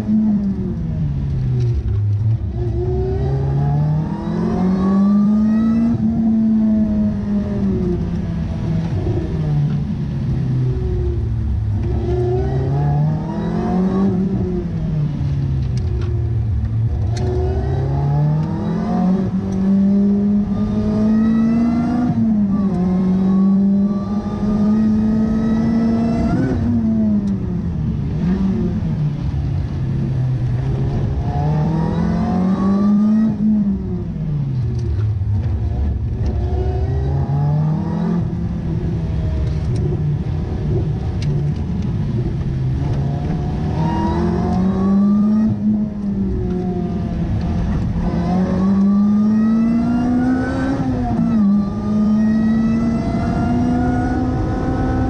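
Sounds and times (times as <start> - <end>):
car engine revving through gears: 0.0 - 55.0
road and tyre noise: 0.0 - 55.0.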